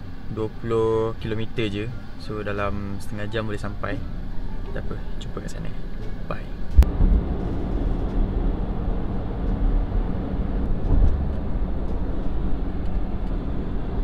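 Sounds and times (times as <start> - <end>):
car tyre and engine rumble: 0.0 - 14.0.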